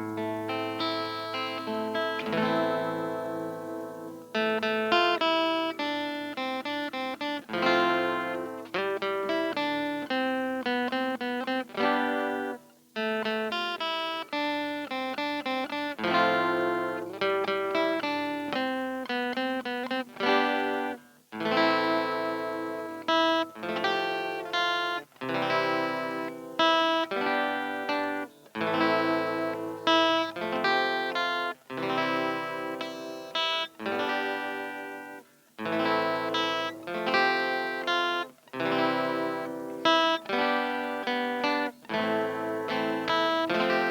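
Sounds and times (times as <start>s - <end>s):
solo guitar picked notes: 0.0s - 43.9s.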